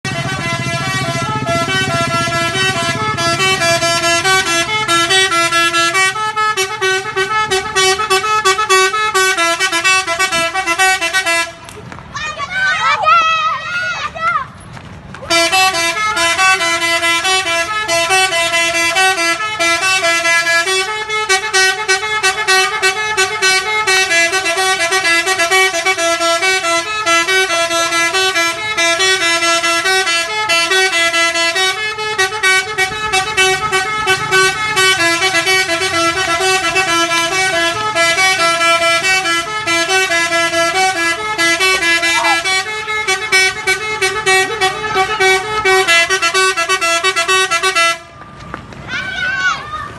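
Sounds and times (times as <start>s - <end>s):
bus musical horn playing: 0.0s - 11.7s, 15.2s - 48.2s.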